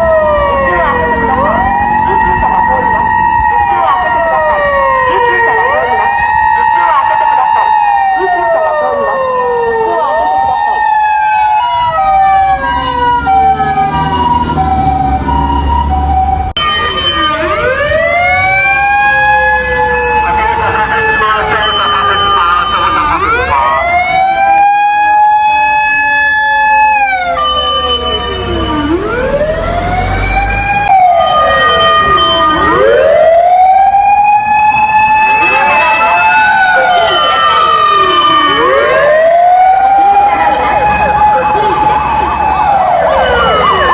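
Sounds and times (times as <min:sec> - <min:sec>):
two-tone electronic siren: 0:00.0 - 0:43.9.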